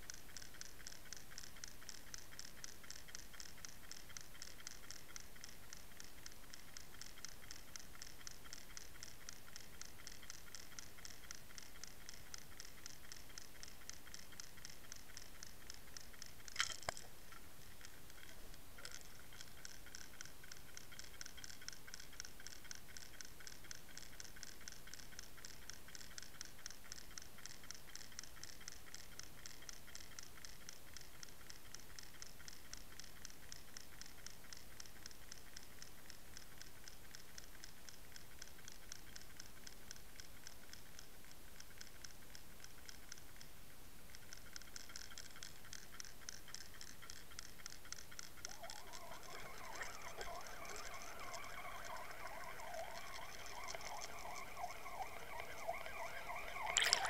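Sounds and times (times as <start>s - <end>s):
fast underwater ticking: 0.0s - 43.5s, 44.1s - 57.0s.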